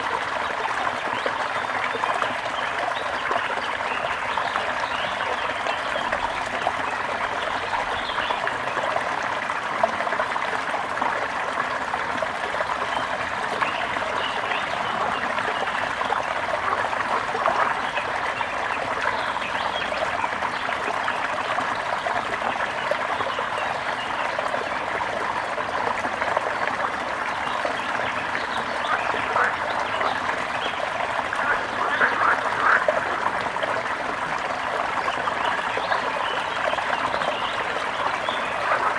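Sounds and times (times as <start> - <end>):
water trickling: 0.1 - 38.9.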